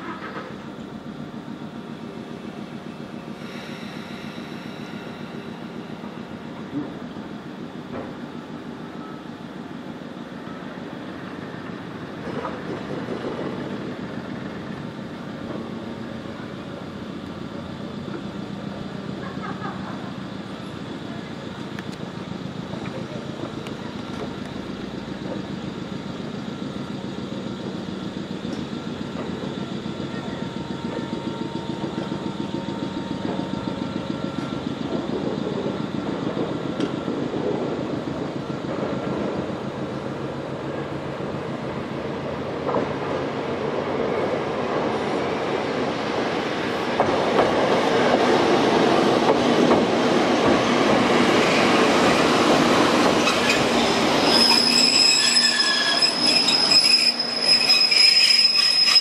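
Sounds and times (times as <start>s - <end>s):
train wheels rolling on track: 0.0s - 59.0s.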